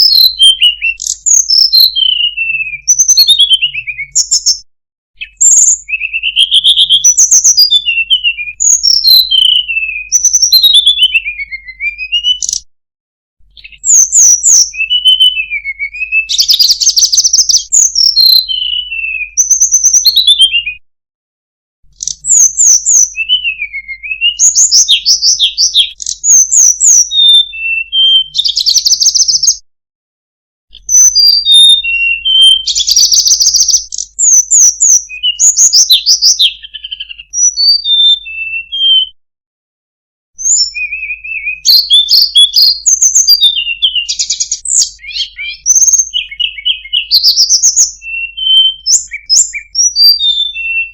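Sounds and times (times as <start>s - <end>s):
songbird singing: 0.0s - 4.6s, 5.2s - 12.7s, 13.4s - 20.8s, 21.9s - 29.6s, 30.7s - 39.2s, 40.4s - 50.9s.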